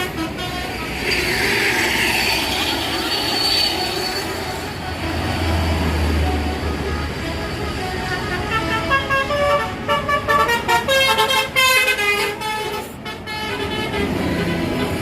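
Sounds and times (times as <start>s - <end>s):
bus multi-tone air horn tune: 0.0s - 15.0s.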